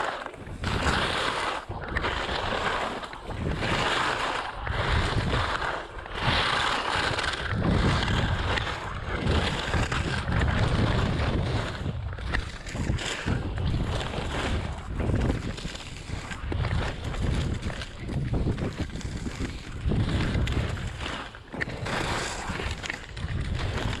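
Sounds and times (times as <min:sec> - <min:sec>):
skis scraping on snow: 0:00.0 - 0:24.0
wind on microphone: 0:00.0 - 0:24.0.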